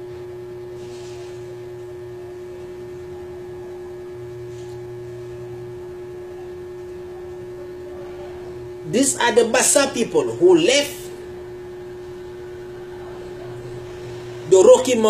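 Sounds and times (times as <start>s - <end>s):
steady fixed-pitch hum: 0.0s - 15.0s.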